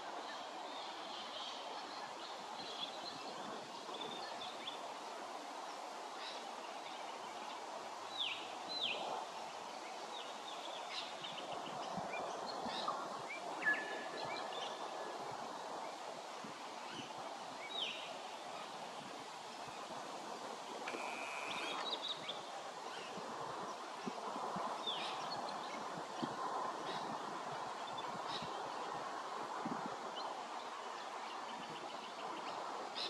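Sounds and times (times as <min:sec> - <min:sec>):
background hiss: 0:00.0 - 0:33.0.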